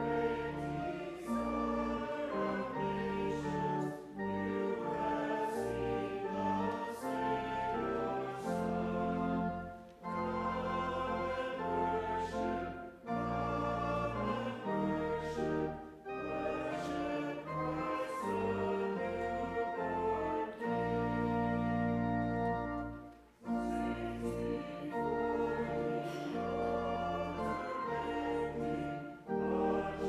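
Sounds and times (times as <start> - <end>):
congregation singing a hymn: 0.0 - 30.0
organ chords: 0.0 - 30.0.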